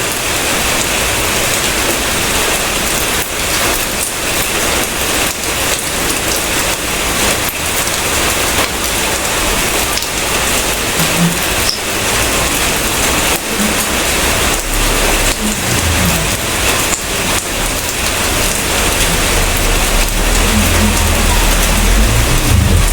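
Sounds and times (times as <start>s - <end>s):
heavy rain falling: 0.0s - 22.9s
raindrop taps: 2.9s - 22.9s.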